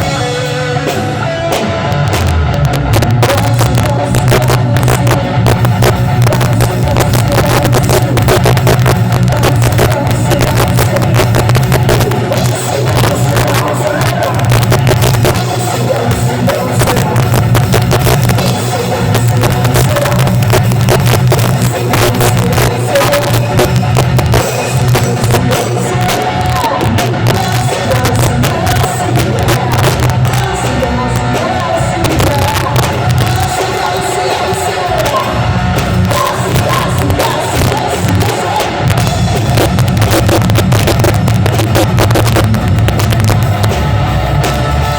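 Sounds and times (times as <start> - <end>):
bass line: 0.0 - 44.9
drum kit hitting busily: 0.0 - 44.9
electric guitar: 0.0 - 44.9
rock band playing: 0.0 - 44.9.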